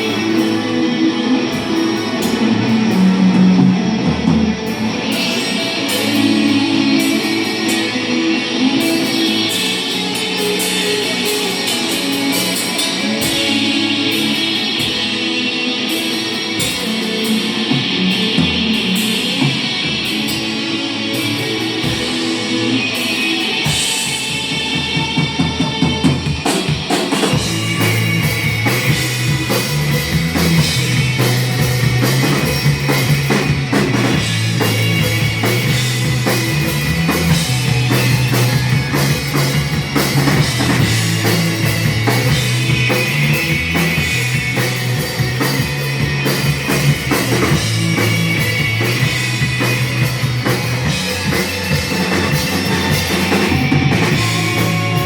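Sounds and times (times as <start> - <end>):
bass guitar: 0.0 - 55.0
drum kit beat: 0.0 - 55.0
rock guitar: 0.0 - 55.0.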